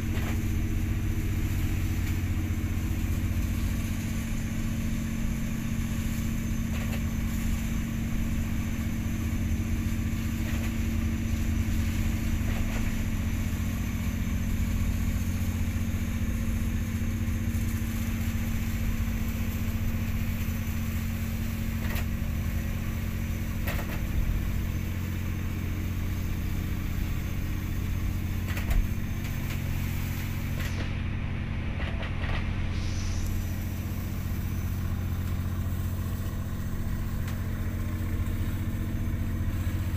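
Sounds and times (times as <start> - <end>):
ship engine droning: 0.0 - 39.9.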